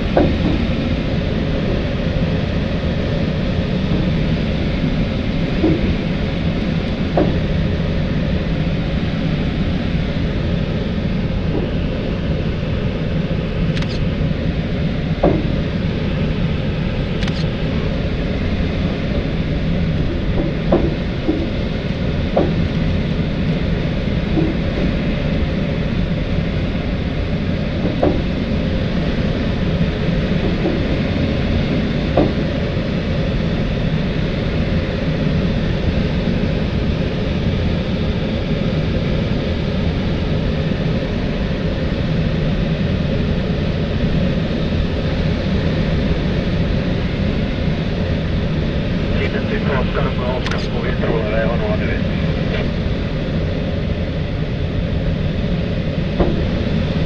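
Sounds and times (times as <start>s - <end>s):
airflow rushing around cockpit: 0.0s - 57.0s.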